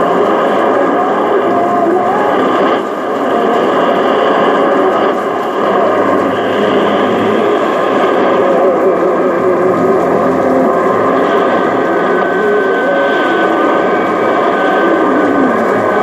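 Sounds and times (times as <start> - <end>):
faint wavering radio tones: 0.0 - 16.0
radio static: 0.0 - 16.0.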